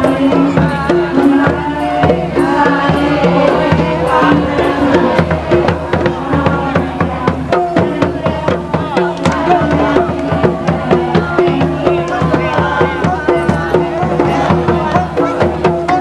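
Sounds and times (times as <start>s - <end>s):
frame drums beating a rhythm: 0.0s - 16.0s.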